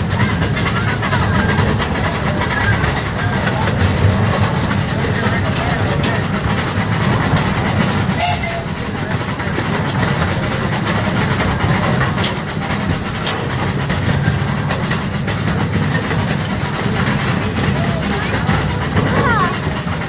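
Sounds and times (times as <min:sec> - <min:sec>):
ride train rumbling on track: 0:00.0 - 0:20.0
clicks from the rails: 0:00.2 - 0:20.0.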